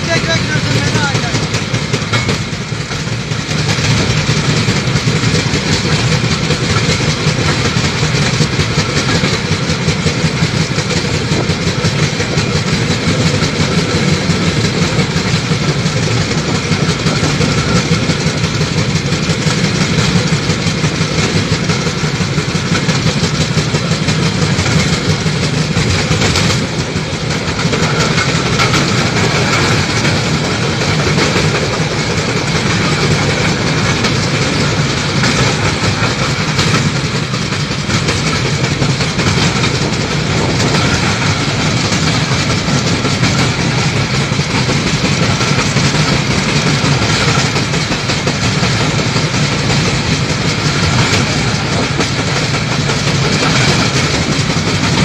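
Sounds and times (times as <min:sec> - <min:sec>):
motor trolley engine: 0:00.0 - 0:55.0
wheels rattling on rails: 0:00.0 - 0:55.0.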